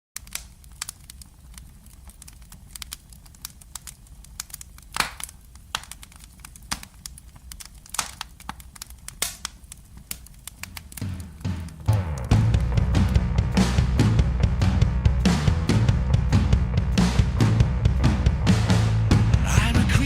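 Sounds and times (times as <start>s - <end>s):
crackles and clicks: 0.2s - 18.7s.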